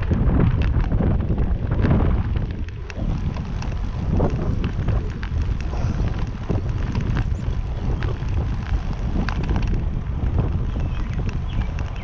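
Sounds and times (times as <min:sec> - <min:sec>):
bicycle clicks and knocks: 0:00.0 - 0:12.0
tyre and road noise: 0:00.0 - 0:12.0
wind buffeting microphone: 0:00.0 - 0:12.0.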